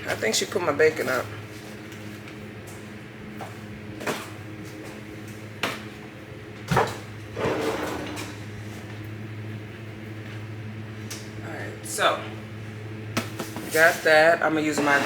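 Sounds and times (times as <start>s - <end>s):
window fan humming: 0.0s - 15.0s.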